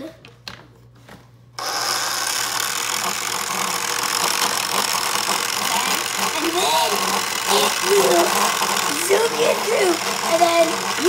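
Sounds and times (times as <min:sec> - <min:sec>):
toy motor whirring: 0:01.6 - 0:11.0.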